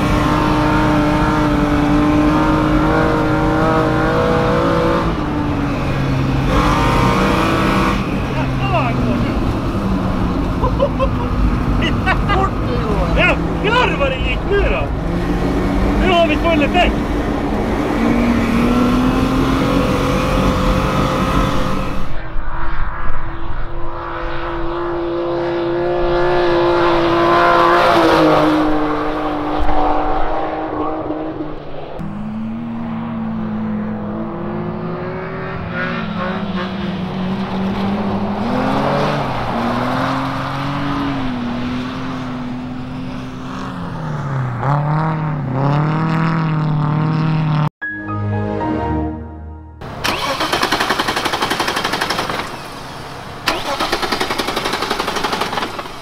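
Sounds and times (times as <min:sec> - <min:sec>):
race car engines revving: 0:00.0 - 0:22.2, 0:23.7 - 0:47.7, 0:49.8 - 0:56.0.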